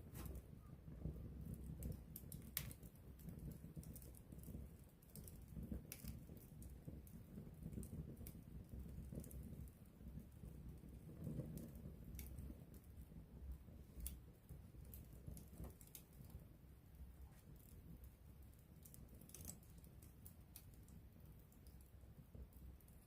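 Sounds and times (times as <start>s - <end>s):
burning wood crackling and popping: 0.0s - 23.0s
low rumble of flame: 0.0s - 23.0s.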